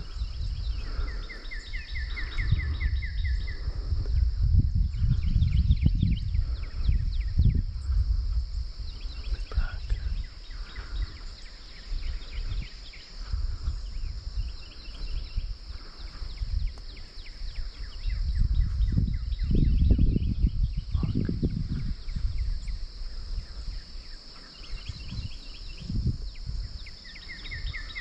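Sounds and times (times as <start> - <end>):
insect and bird chirps: 0.0 - 28.0
wind buffeting microphone: 0.0 - 28.0.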